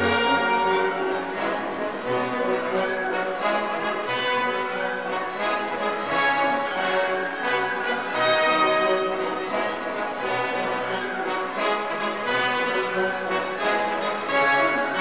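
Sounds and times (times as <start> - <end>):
brass holding long notes: 0.0 - 15.0
orchestral music: 0.0 - 15.0.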